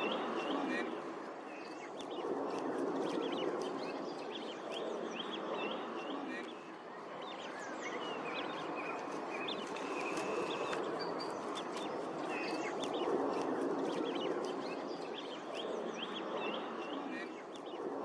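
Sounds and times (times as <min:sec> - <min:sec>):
wild birds chirping: 0:00.0 - 0:18.0.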